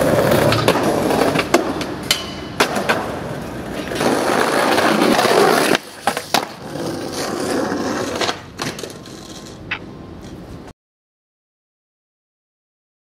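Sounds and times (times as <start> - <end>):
skateboard wheels rolling on asphalt: 0.0 - 10.7.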